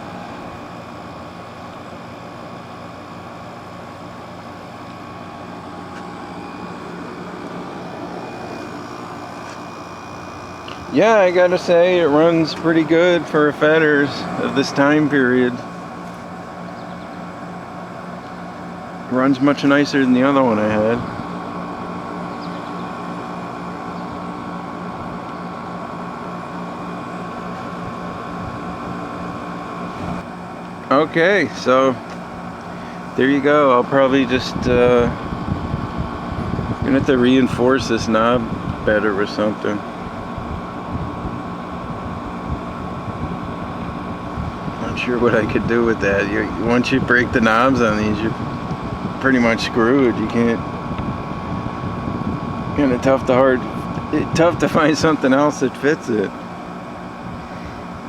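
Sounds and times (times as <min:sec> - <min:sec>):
window air conditioner humming: 0:00.0 - 0:58.0.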